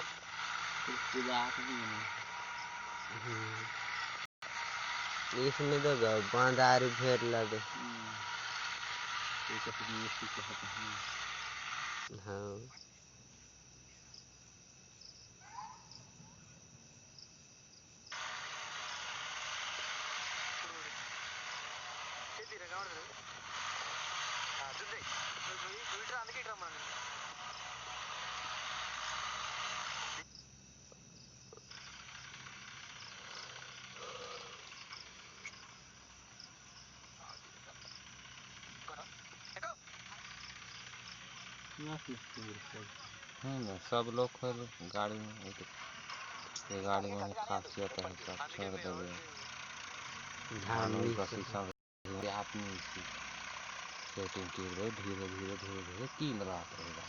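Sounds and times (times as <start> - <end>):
loud steady hiss: 0.0 - 12.7, 18.1 - 30.2, 31.7 - 57.0
faint crickets chirping: 0.0 - 57.0
insects buzzing: 0.0 - 57.0.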